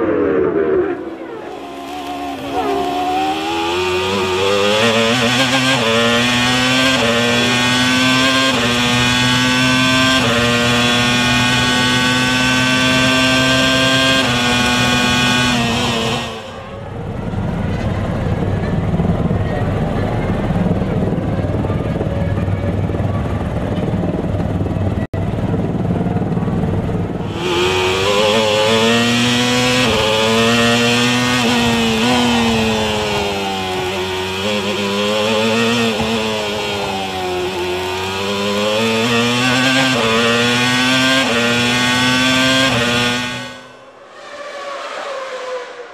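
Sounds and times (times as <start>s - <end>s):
racing car engine buzzing: 0.0s - 21.6s, 24.4s - 45.9s.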